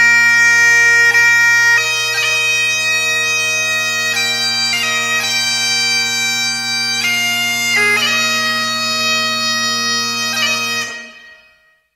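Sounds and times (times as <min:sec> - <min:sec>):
bagpipe music: 0:00.0 - 0:11.9.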